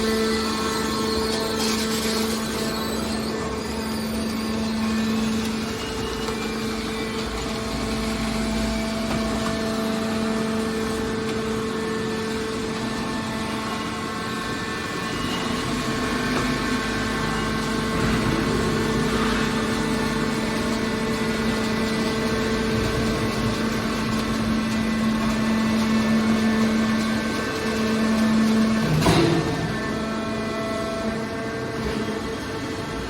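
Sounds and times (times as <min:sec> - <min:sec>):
hydraulic power unit humming: 0:00.0 - 0:33.0.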